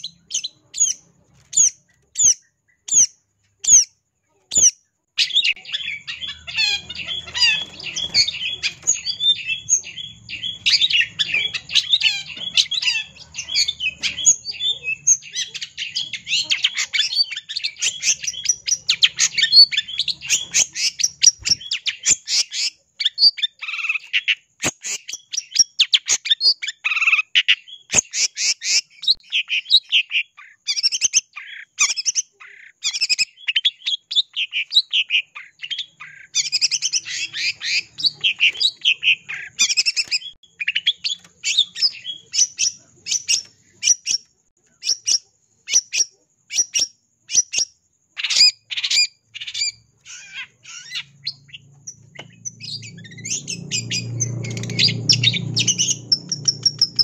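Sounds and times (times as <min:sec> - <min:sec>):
bird singing fast chatter: 0:00.0 - 0:57.0.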